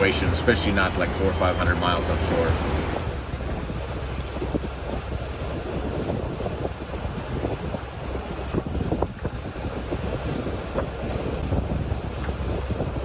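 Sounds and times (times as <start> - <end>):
sea water and waves: 0.0 - 13.0
wind buffeting microphone: 0.0 - 13.0.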